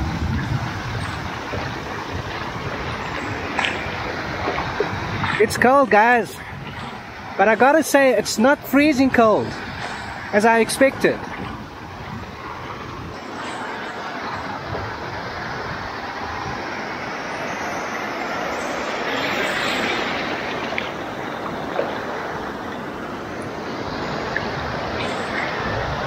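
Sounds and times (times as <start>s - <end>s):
small waves washing over sand: 0.0s - 26.0s.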